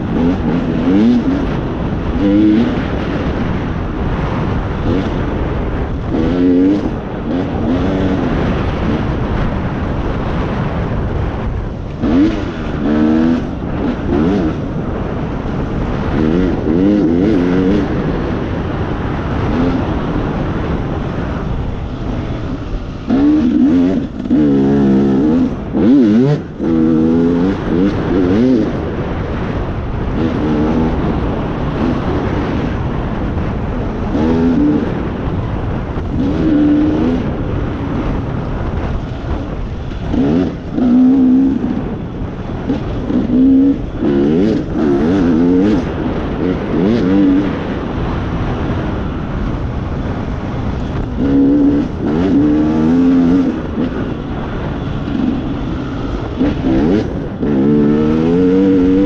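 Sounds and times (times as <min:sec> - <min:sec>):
vehicle engine revving: 0:00.0 - 0:59.0
wind and ride noise: 0:00.0 - 0:59.0.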